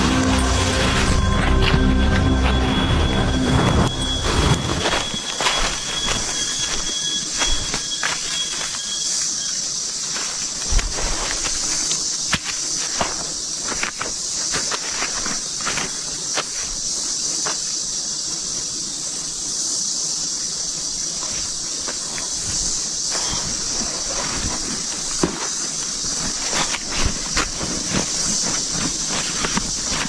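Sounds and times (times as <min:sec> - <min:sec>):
high insect chorus: 0:00.0 - 0:30.0.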